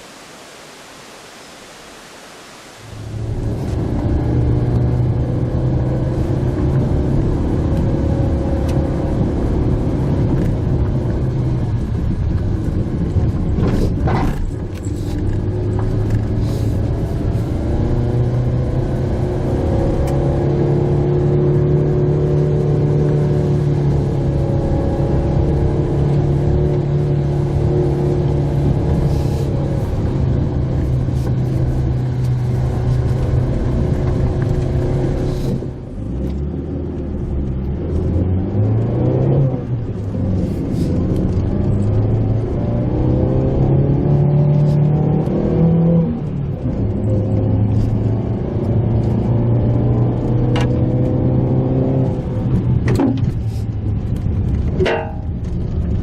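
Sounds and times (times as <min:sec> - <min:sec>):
tyre and road noise: 0:02.6 - 0:56.0.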